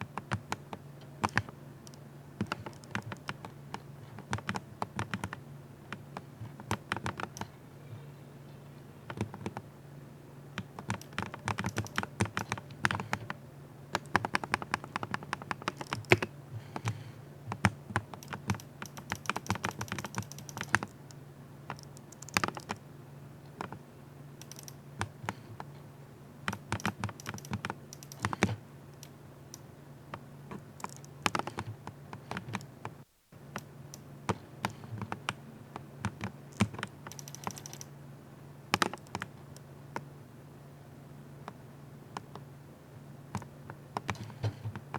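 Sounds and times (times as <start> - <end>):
keyboard typing clicks: 0.0 - 8.1, 9.0 - 9.6, 10.5 - 22.8, 24.4 - 25.7, 26.4 - 38.0, 38.7 - 40.1, 43.3 - 44.9
steady low hum: 0.0 - 44.9.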